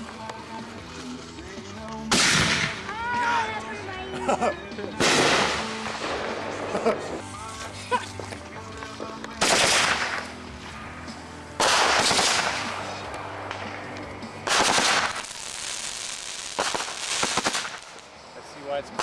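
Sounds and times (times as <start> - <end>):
fireworks bursting with crackle: 0.0 - 3.5, 4.8 - 19.0.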